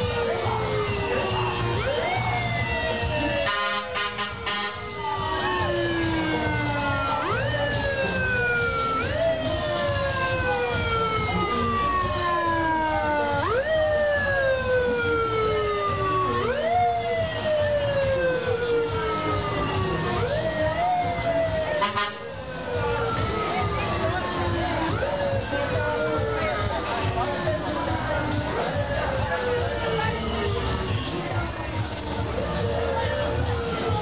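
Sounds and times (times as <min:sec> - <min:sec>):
fire engine siren wailing: 0:00.0 - 0:34.0.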